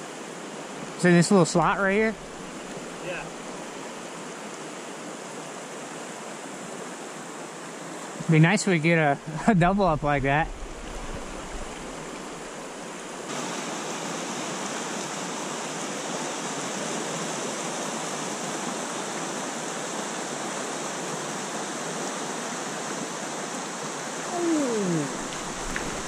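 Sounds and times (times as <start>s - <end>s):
stream rushing over riffles: 0.0s - 26.0s.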